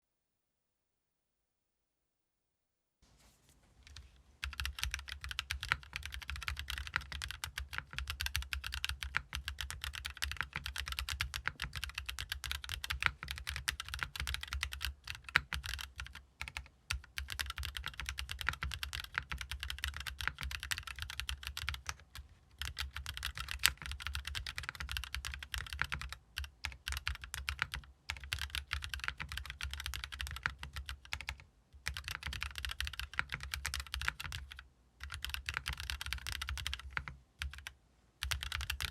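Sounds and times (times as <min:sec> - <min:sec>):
mechanical keyboard typing: 0:03.9 - 0:38.9.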